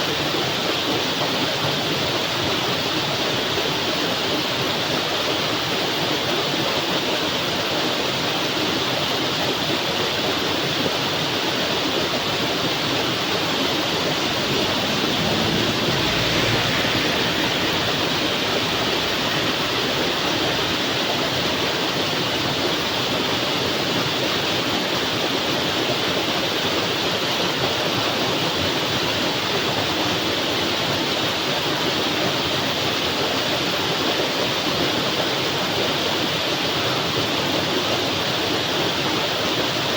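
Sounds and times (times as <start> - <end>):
heavy rain falling: 1.4 - 39.9.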